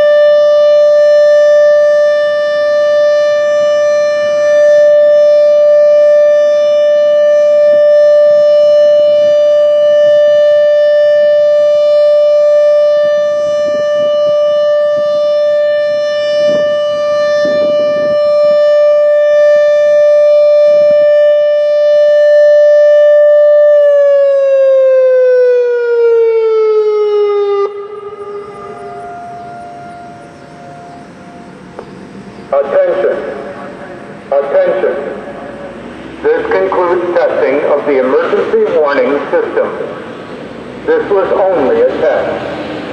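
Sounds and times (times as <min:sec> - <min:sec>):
electronic warning siren: 0:00.0 - 0:40.2
distant sirens: 0:00.0 - 0:42.9.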